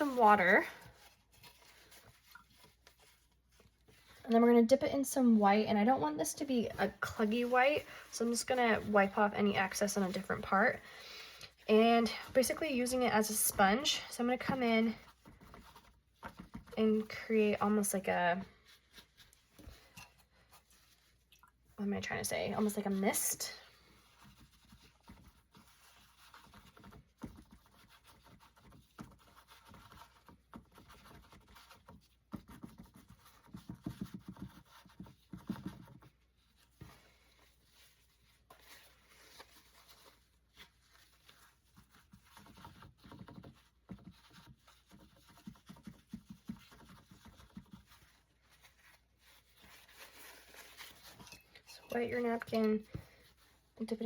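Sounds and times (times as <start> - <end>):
paper napkin dabbing on canvas: 0.0 - 54.0.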